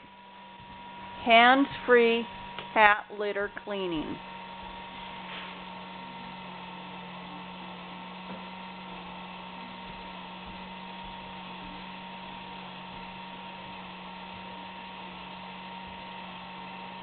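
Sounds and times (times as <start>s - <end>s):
litter box motor humming: 0.0s - 17.0s.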